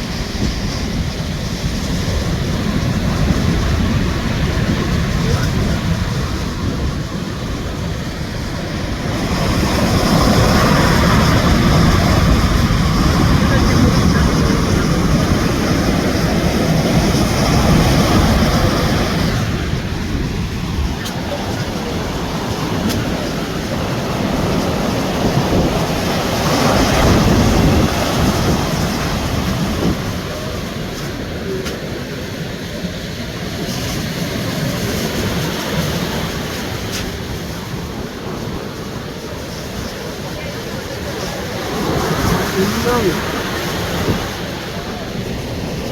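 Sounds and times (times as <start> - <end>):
heavy surf breaking: 0.0 - 45.9
wind buffeting microphone: 0.0 - 45.9.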